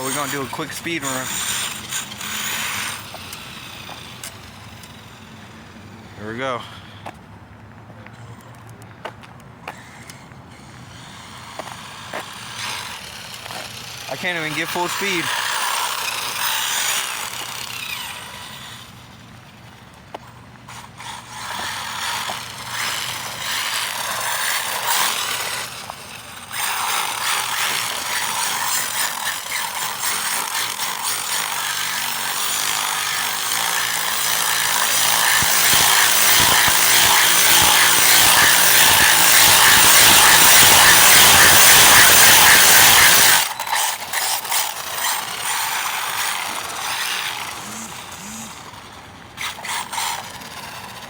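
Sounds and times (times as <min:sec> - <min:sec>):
rc car electric motor whining: 0:00.0 - 0:07.2, 0:09.6 - 0:51.0.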